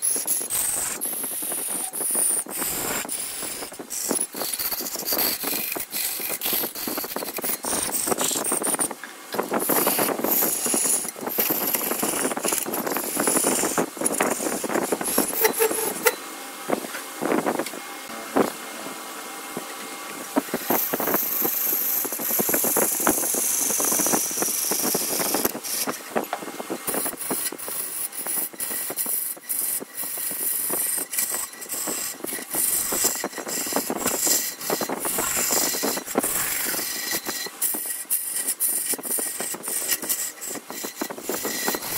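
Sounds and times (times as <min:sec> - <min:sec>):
lathe tool scraping wood: 0:00.0 - 0:17.8, 0:19.5 - 0:41.9.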